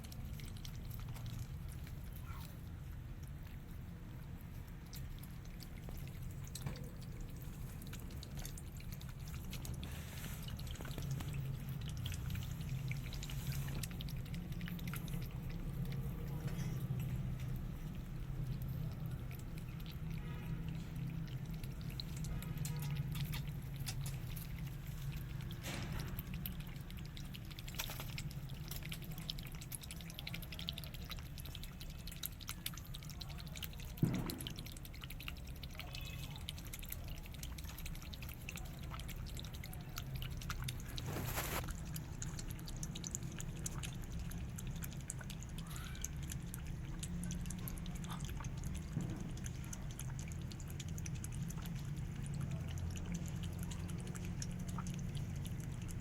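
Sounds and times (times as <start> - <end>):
cat lapping liquid: 0.0 - 56.0.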